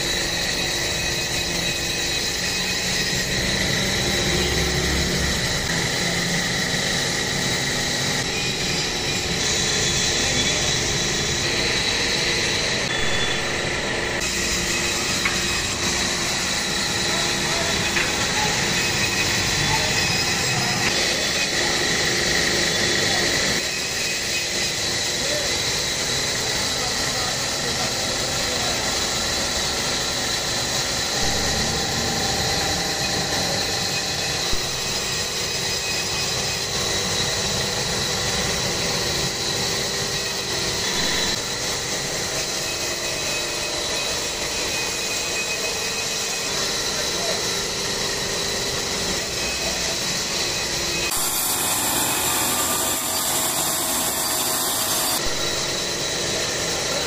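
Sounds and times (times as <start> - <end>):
woodworking machinery whining: 0.0 - 57.0.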